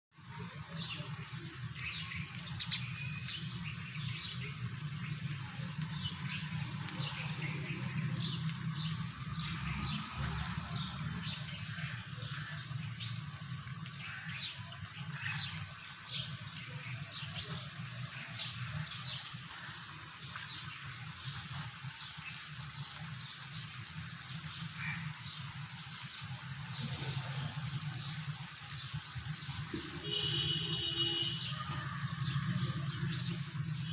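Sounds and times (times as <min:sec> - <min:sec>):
rain on a wet street: 0:00.1 - 0:33.9
birds chirping: 0:00.5 - 0:33.9.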